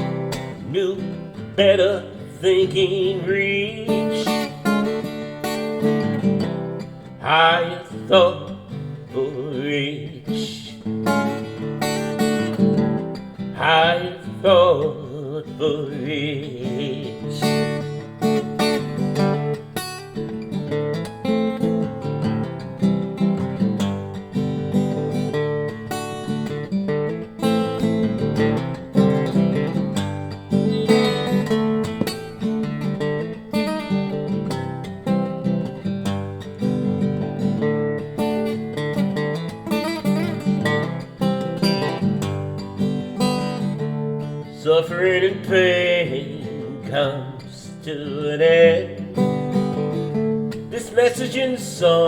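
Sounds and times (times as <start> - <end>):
guitar-led instrumental music: 0.0 - 52.0.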